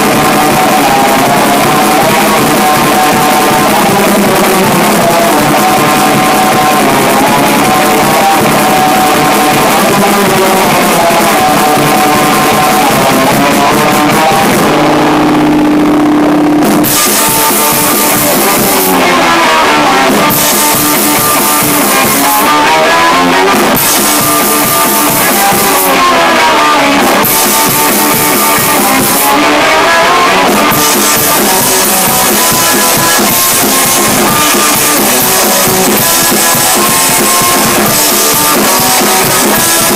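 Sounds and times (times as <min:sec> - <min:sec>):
drum kit: 0:00.0 - 0:39.9
loud rock guitar: 0:00.0 - 0:39.9.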